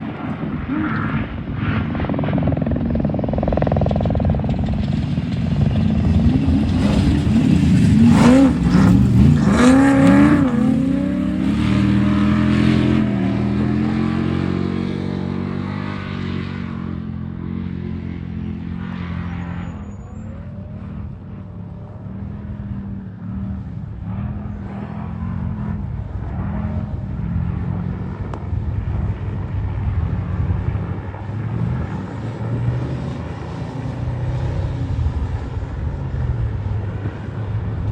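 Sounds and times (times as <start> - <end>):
race vehicle engine revving: 0.0 - 37.9.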